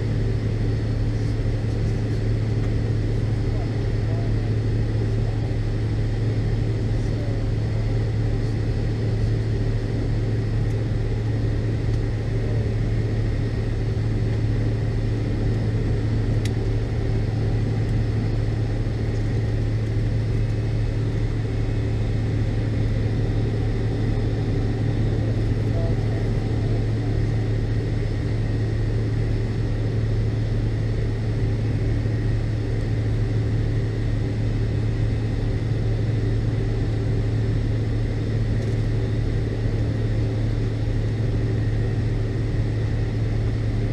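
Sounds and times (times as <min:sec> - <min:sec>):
airliner cabin drone: 0:00.0 - 0:43.9.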